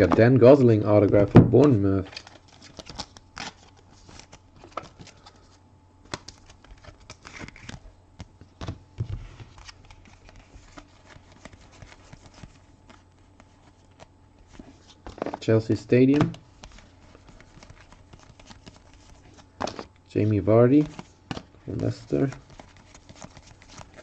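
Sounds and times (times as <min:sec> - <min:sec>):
trading cards clicking and rustling: 0:00.0 - 0:05.4, 0:06.0 - 0:24.0.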